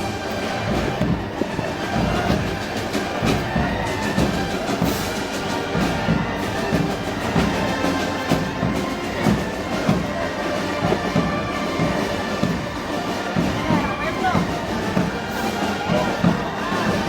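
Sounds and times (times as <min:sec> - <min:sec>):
festival band playing: 0:00.0 - 0:17.0
steady pulsing drum beat: 0:00.0 - 0:17.0.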